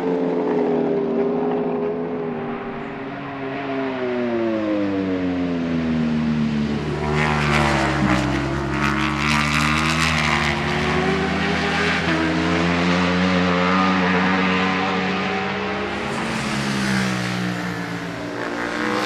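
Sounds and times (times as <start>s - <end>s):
motorcycle engine at racing speed: 0.0s - 19.0s.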